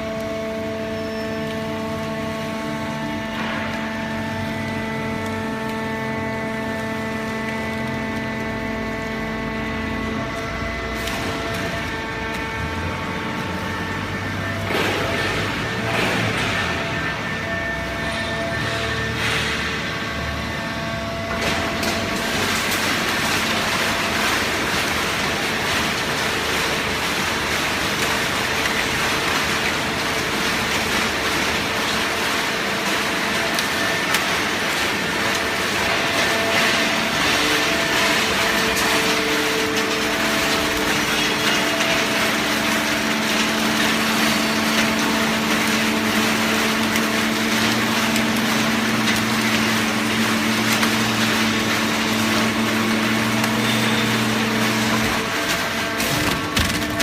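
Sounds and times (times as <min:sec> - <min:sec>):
cardboard baler running: 0:00.0 - 0:57.0.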